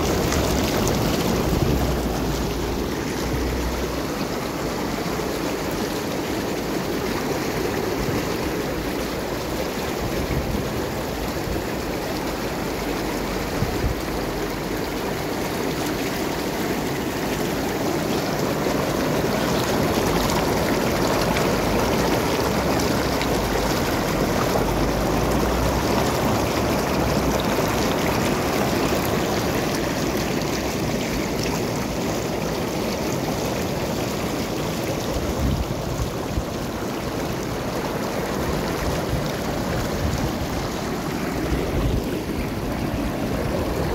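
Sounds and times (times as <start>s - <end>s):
water rushing and splashing: 0.0s - 43.9s.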